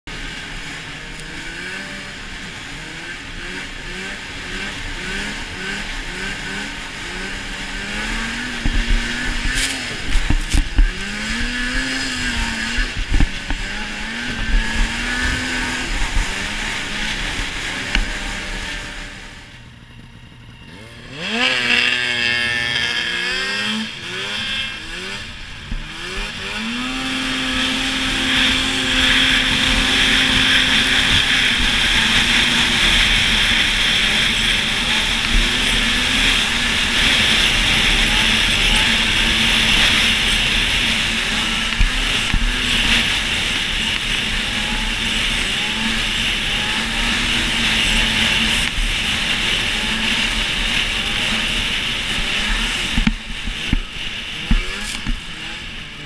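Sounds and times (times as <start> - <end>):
snowmobile engine revving: 0.1 - 56.0.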